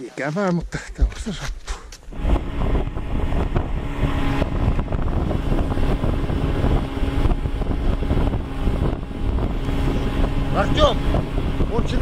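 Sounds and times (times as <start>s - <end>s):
snowmobile engine running: 1.0s - 12.0s
wind noise on microphone: 1.0s - 12.0s.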